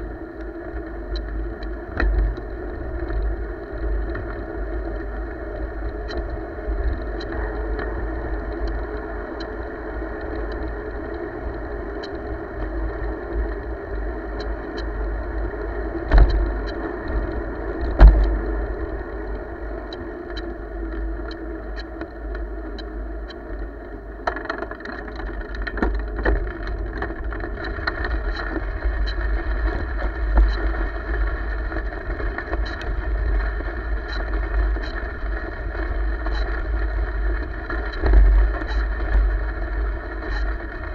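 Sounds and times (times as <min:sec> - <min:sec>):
bicycle tyres rolling: 0:00.0 - 0:40.9
wind buffeting microphone: 0:00.0 - 0:40.9.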